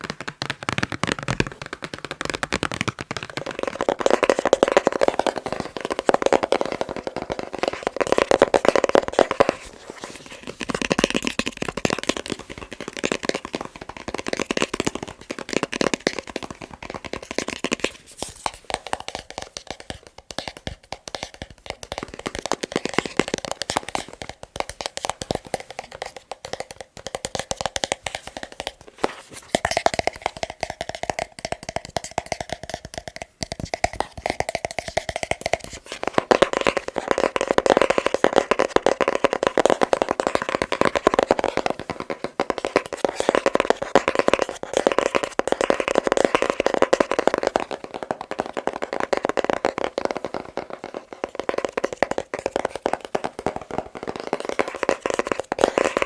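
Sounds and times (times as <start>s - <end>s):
fingertips tapping on a box: 0.0s - 56.0s.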